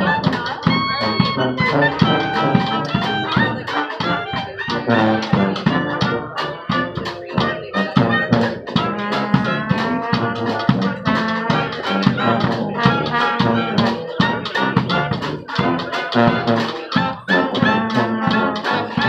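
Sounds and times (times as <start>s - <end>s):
bass drum and snare beat: 0.0s - 19.0s
brass horns playing: 0.0s - 19.0s.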